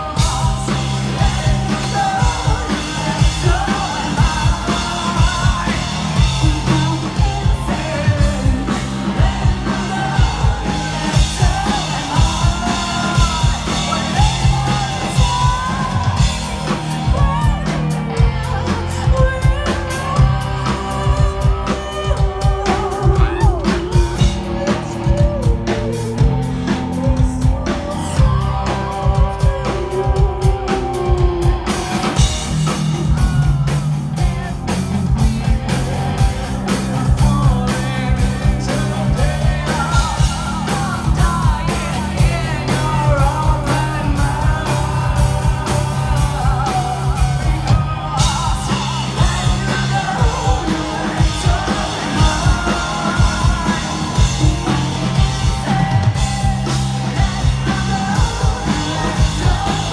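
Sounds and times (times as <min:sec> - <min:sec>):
bass guitar: 0:00.0 - 0:59.9
drum kit steady beat: 0:00.0 - 0:59.9
electric guitar: 0:00.0 - 0:59.9
woman singing: 0:00.0 - 0:59.9.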